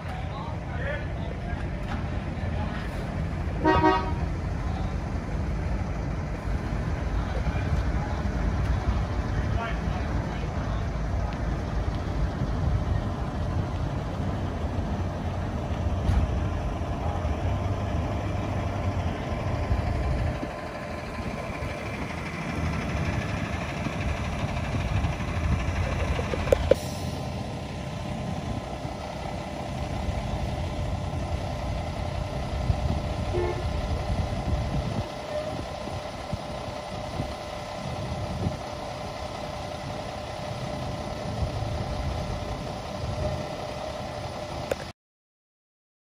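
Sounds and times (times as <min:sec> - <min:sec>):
vehicle engine low rumble: 0:00.0 - 0:44.9.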